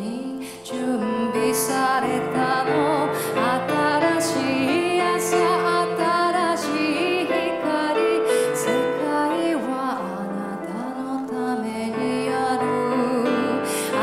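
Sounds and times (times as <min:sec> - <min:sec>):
grand piano: 0:00.0 - 0:14.0
woman singing with vibrato: 0:00.0 - 0:14.0.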